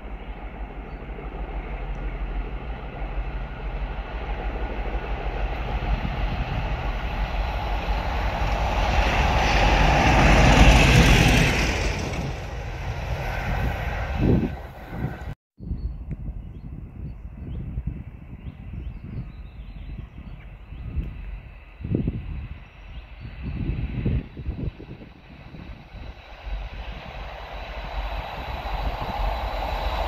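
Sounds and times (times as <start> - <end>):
diesel locomotive passing: 0.0 - 15.4, 20.3 - 30.0.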